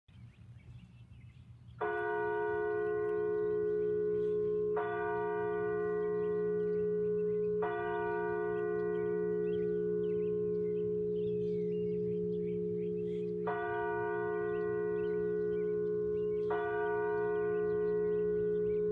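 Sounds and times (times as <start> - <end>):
church bell tolling: 1.8 - 18.9.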